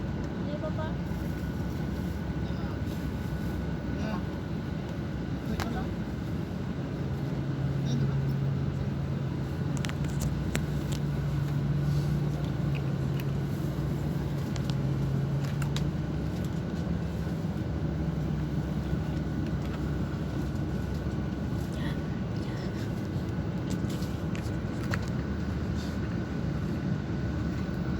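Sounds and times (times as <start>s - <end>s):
diesel engine humming: 0.0s - 27.9s.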